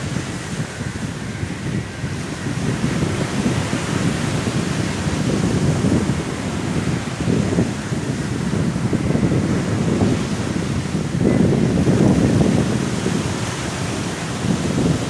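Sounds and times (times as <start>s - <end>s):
sea waves on a shore: 0.0s - 15.0s
strong wind buffeting: 0.0s - 15.0s.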